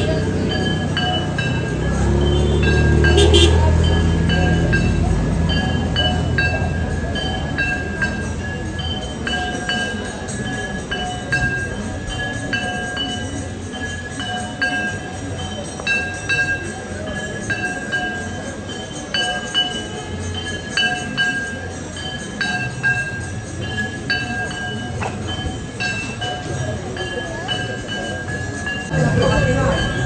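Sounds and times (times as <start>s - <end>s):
temple bells clanging: 0.0s - 30.0s.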